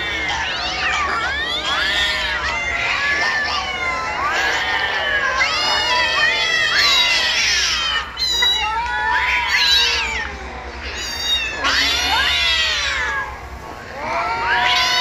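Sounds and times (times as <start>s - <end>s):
cats meowing and yowling: 0.0s - 15.0s.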